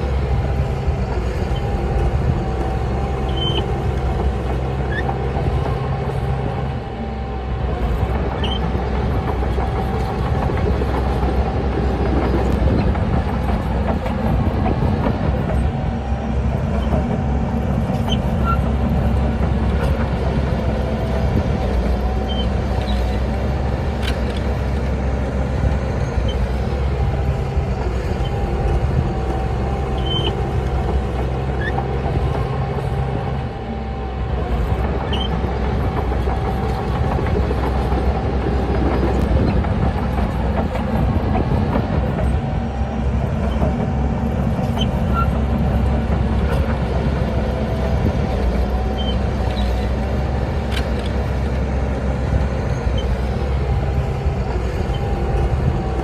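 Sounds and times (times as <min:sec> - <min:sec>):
heavy machine diesel engine: 0:00.0 - 0:56.0.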